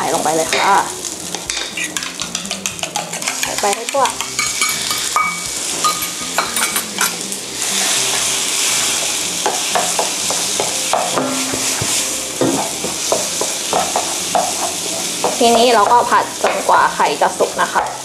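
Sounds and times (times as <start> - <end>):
egg and rice sizzling in a pan: 0.0 - 18.0
wooden spatula scraping a pan: 0.6 - 16.6.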